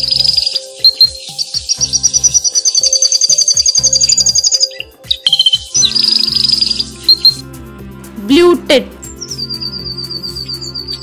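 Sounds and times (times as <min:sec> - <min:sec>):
canary singing trills: 0:00.0 - 0:07.7, 0:08.5 - 0:11.0.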